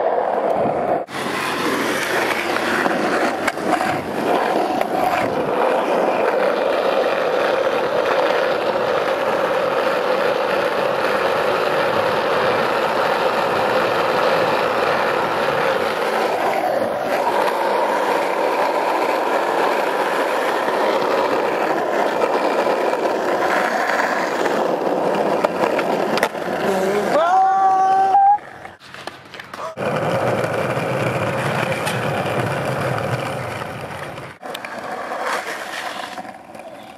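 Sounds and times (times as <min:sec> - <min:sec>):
skateboard wheels rolling on asphalt: 0:00.0 - 0:36.9.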